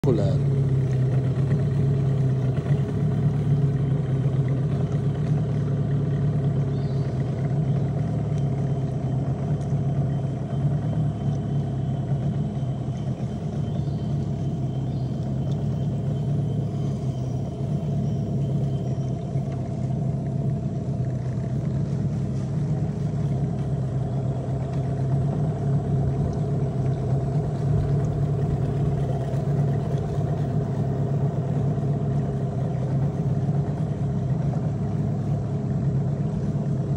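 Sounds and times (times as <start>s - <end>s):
outboard motor running: 0.0s - 36.9s.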